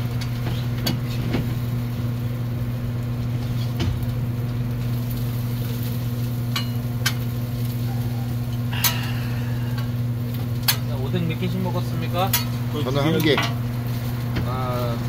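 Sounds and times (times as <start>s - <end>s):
food sizzling on a griddle: 0.0s - 15.0s
steady low hum: 0.0s - 15.0s.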